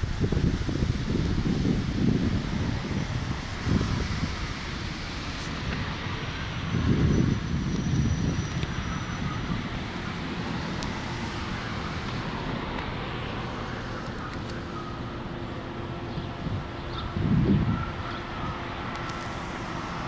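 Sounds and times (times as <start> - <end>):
train diesel engine rumbling: 0.0 - 20.0.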